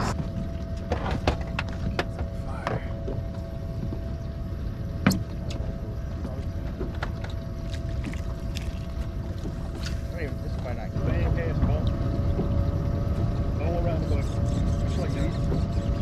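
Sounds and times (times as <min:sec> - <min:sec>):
water lapping against boat hull: 0:00.0 - 0:16.0
wind on microphone: 0:00.0 - 0:16.0.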